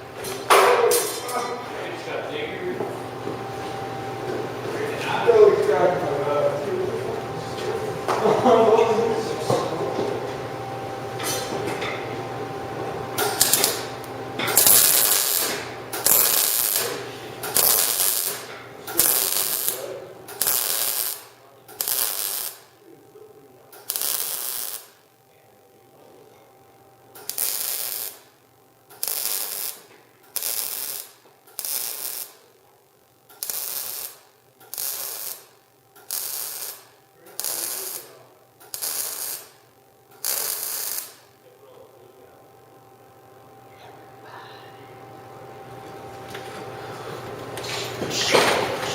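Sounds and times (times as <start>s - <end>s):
welding arc crackling: 3.4s - 26.0s, 26.7s - 43.3s.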